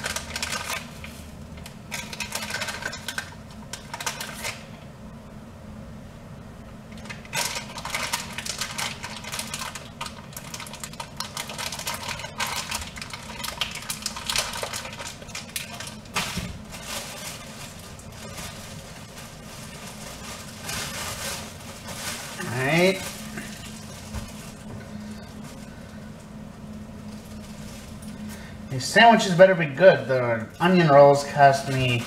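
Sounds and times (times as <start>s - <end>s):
food packaging crinkling: 0.0s - 4.7s, 6.9s - 26.0s, 27.0s - 28.5s, 31.2s - 32.0s
low steady hum: 0.0s - 32.0s.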